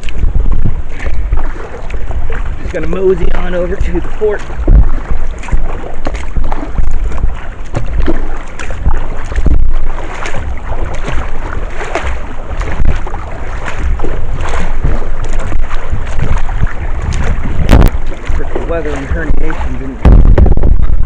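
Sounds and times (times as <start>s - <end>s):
paddle strokes splashing: 0.0s - 21.0s
wind buffeting microphone: 0.0s - 21.0s.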